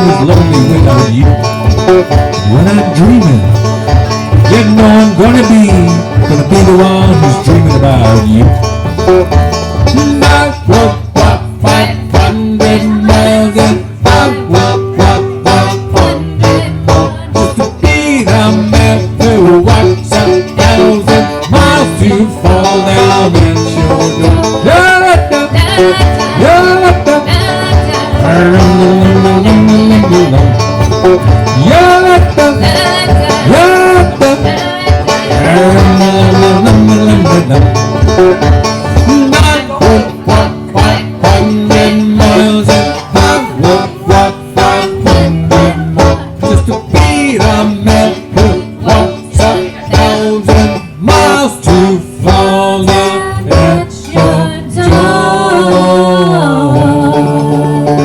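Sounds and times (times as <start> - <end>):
banjo strumming: 0.0 - 58.0
guitar strumming: 0.0 - 58.0
wordless singing: 9.9 - 37.6, 39.0 - 58.0.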